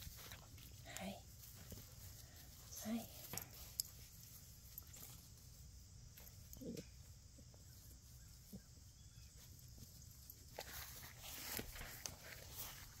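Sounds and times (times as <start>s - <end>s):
puppies moving on grass: 0.0s - 13.0s.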